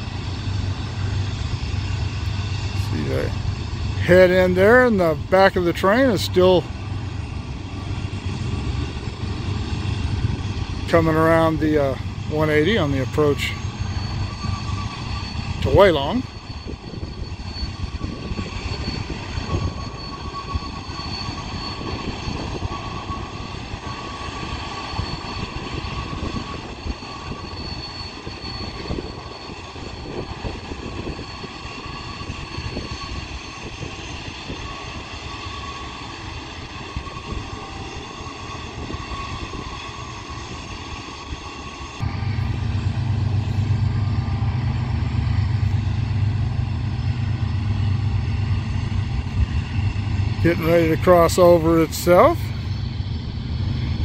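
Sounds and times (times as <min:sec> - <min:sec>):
distant diesel locomotives droning: 0:00.0 - 0:54.0.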